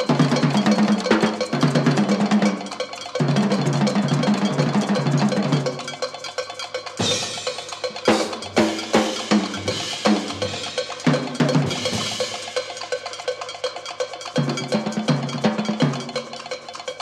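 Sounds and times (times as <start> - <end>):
heavy drum strokes: 0.0 - 16.6
cymbal wash: 0.0 - 17.0.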